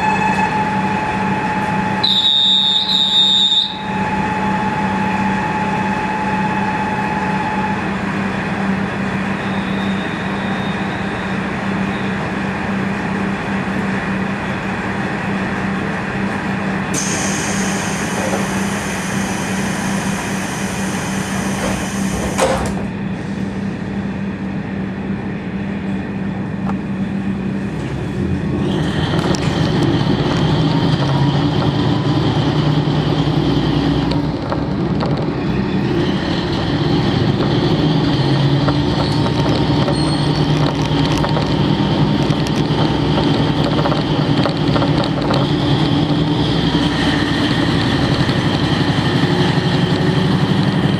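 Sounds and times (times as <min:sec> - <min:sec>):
diesel railcar engine idling: 0:00.0 - 0:50.9.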